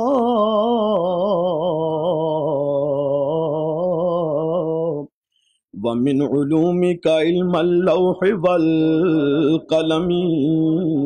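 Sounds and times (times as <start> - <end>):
person singing unaccompanied: 0.0 - 5.2, 5.8 - 11.0.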